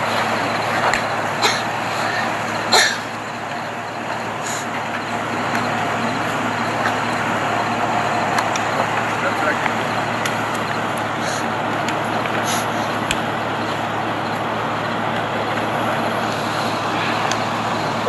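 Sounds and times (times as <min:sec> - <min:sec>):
rumble of road vehicles: 0:00.0 - 0:18.0.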